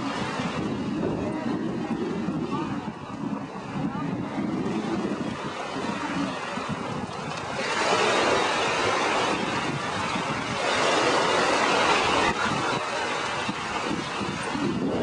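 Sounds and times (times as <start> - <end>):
small surf breaking: 0.0 - 15.0
wind buffeting microphone: 0.0 - 15.0.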